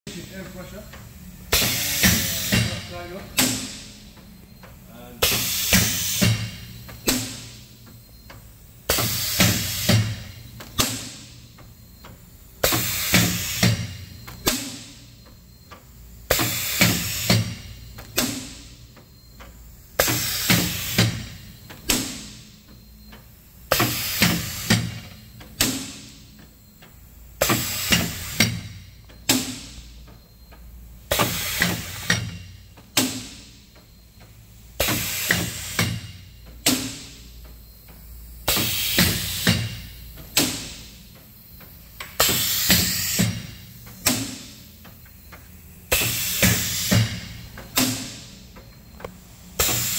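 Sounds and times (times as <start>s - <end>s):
pneumatic machine air hiss: 1.3s - 4.0s, 5.1s - 11.6s, 12.4s - 15.3s, 16.2s - 18.9s, 19.8s - 26.4s, 27.4s - 30.0s, 30.9s - 33.7s, 34.4s - 37.4s, 38.4s - 49.9s.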